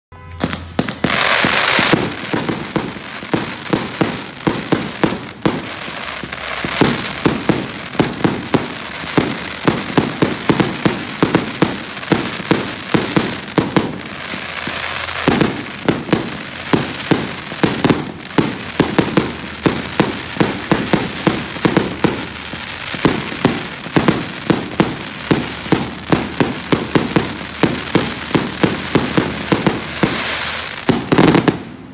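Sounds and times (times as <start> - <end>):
firework bangs: 0.1 - 31.9
firework fuse hiss: 0.6 - 31.7.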